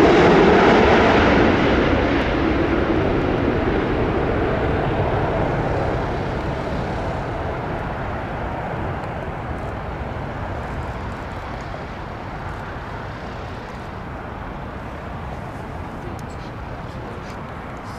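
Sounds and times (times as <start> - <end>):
jet airliner rumble: 0.0 - 17.9.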